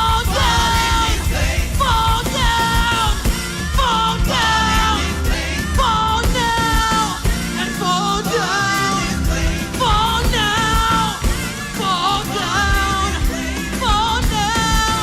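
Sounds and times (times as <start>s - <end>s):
drums: 0.0s - 15.0s
lead vocalist singing: 0.0s - 15.0s
worship band playing: 0.0s - 15.0s.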